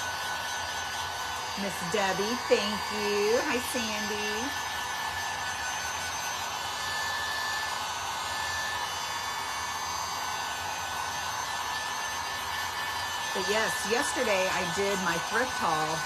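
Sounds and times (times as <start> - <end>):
heat gun blowing: 0.0 - 16.0.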